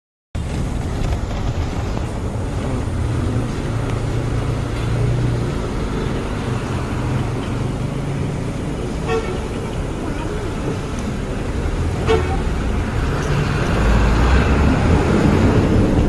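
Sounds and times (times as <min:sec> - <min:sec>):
traffic: 0:00.4 - 0:16.0
vehicle engine rumble: 0:00.4 - 0:16.0.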